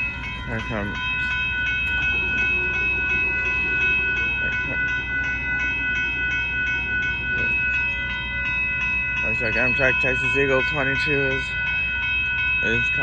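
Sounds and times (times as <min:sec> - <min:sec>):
crossing warning bell ringing: 0:00.0 - 0:13.0.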